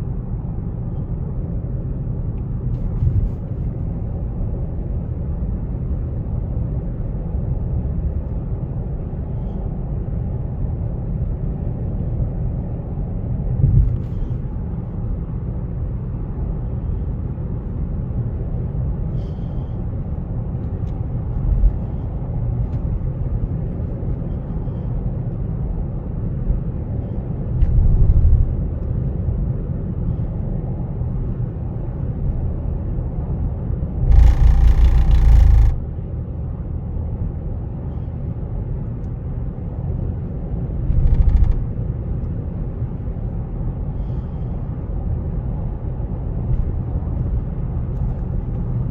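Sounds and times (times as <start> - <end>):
car driving low rumble: 0.0 - 48.9.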